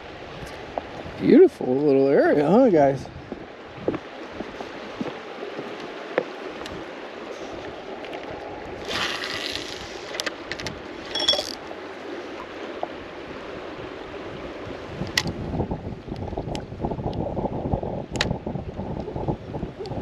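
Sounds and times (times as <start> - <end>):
river water running: 0.0 - 20.0.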